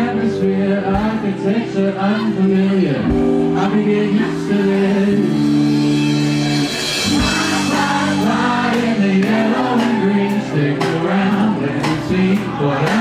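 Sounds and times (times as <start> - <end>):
man singing: 0.0 - 6.4, 7.0 - 13.0
electric guitar: 0.0 - 13.0.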